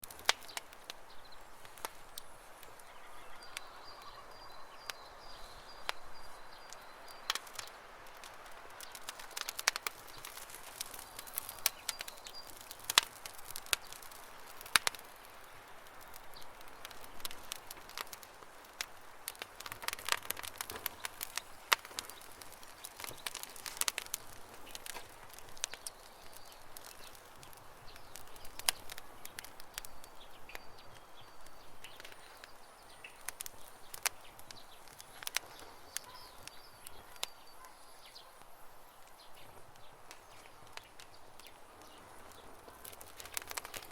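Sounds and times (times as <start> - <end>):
campfire crackling and popping: 0.0 - 43.9
bird chirping: 0.4 - 7.9, 8.8 - 14.6, 20.0 - 43.8.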